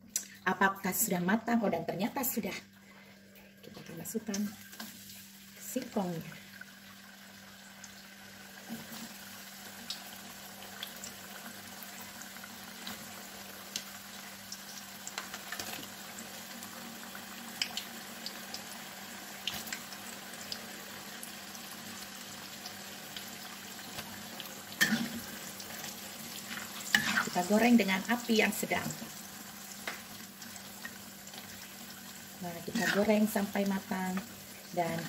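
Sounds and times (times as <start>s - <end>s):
dough deep-frying in oil: 2.3s - 35.0s.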